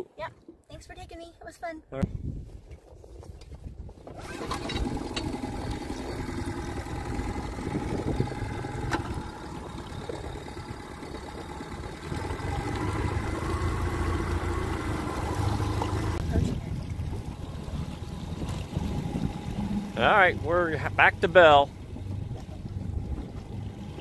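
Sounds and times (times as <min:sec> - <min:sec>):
outboard motor running: 0:04.0 - 0:24.0.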